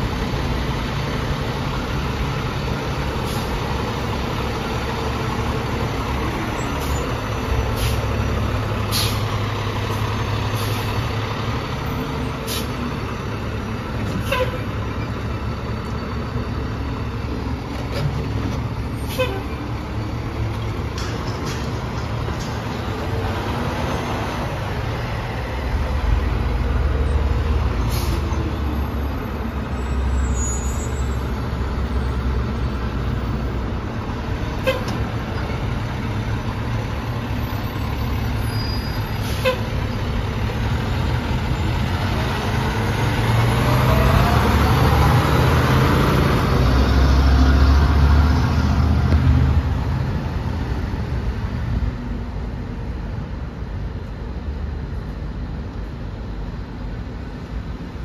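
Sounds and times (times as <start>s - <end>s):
diesel truck engine rumbling: 0.0s - 58.0s.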